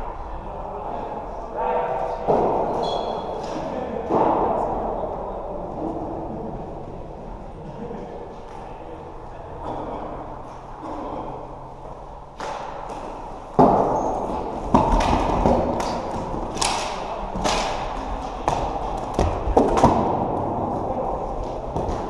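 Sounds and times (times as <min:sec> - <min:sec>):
sticks and ball knocking in hall: 0:01.8 - 0:06.8, 0:08.4 - 0:22.0.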